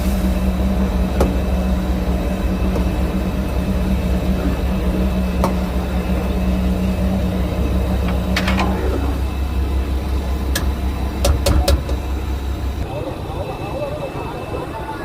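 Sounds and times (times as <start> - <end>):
boat engine droning: 0.0 - 15.0
higher hum: 0.0 - 15.0.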